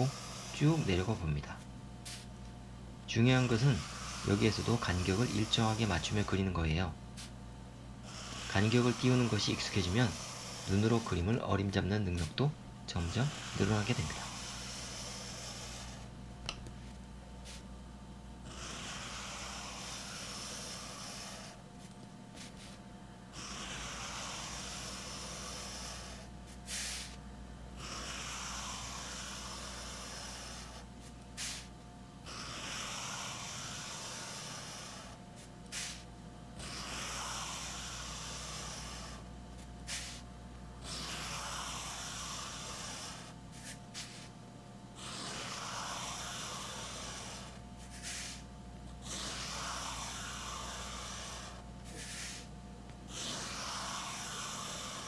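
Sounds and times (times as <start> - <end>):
pencil scratching on paper: 0.0 - 2.3, 3.3 - 6.5, 8.0 - 16.1, 18.5 - 27.2, 27.8 - 31.7, 32.3 - 36.0, 36.6 - 39.3, 39.9 - 40.2, 40.8 - 44.3, 45.0 - 52.5, 53.1 - 55.0.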